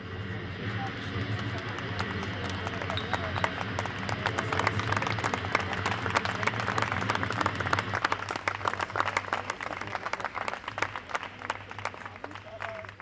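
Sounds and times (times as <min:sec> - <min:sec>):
steady low hum: 0:00.0 - 0:13.0
audience applauding: 0:00.7 - 0:13.0.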